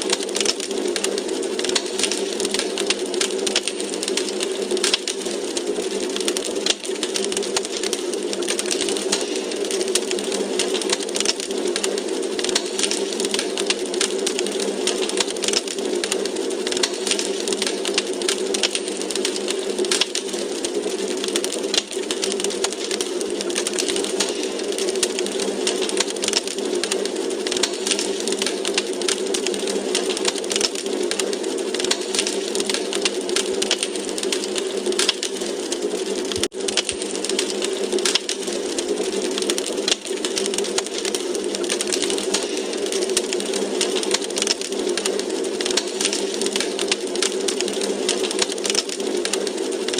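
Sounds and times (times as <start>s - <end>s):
steady rushing hiss: 0.0s - 49.9s
wood fire crackling: 0.0s - 49.9s.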